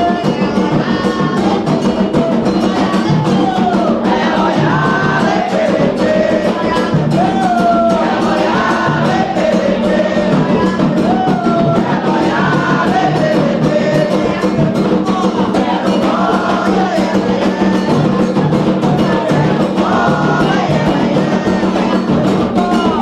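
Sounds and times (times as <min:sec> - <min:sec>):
hand drums beating fast rhythm: 0:00.0 - 0:23.0
voices singing: 0:00.0 - 0:23.0.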